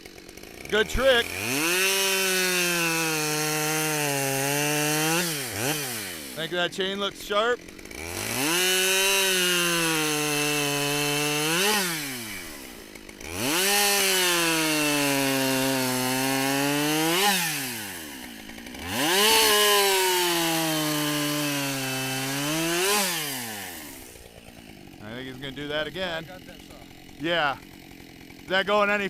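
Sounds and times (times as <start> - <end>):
chainsaw cutting wood: 0.0 - 29.0.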